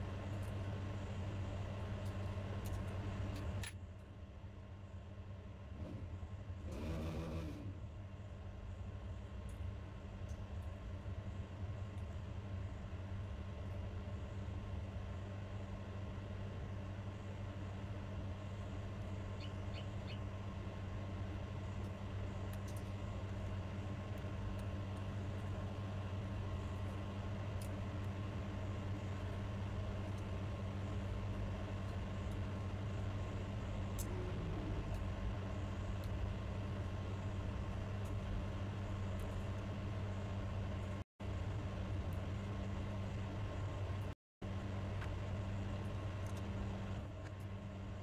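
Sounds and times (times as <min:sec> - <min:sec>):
low background hum: 0:00.0 - 0:48.0.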